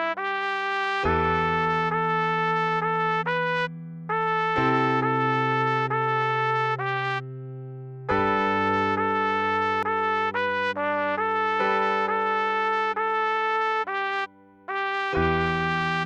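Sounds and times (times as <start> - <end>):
trumpet melody: 0.0 - 7.3, 8.1 - 16.0.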